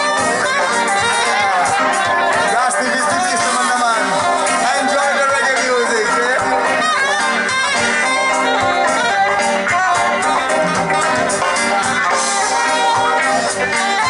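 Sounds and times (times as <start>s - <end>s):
live reggae band: 0.0s - 14.0s.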